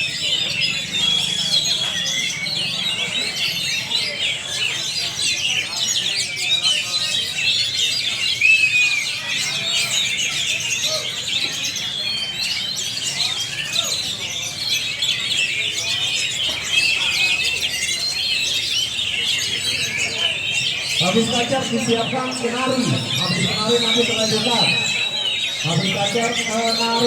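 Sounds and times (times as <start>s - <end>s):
chorus of magpie-robins singing: 0.0s - 27.0s.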